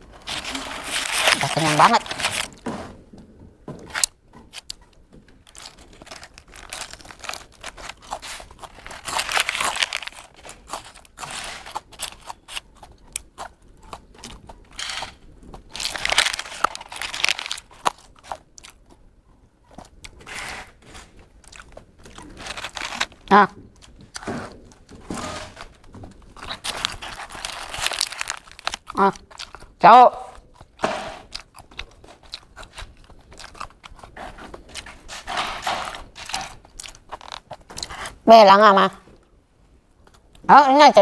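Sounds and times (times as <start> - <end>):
chewing crunchy fried chicken: 0.0 - 2.6, 3.9 - 38.2
paper wrapper crinkling: 0.0 - 2.6, 5.4 - 18.7, 19.8 - 29.8, 30.4 - 38.2.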